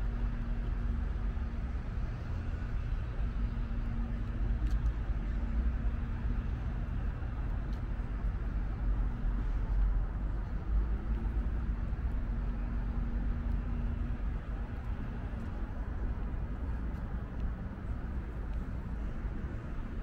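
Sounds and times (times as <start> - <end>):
city road traffic rumble: 0.0 - 20.0.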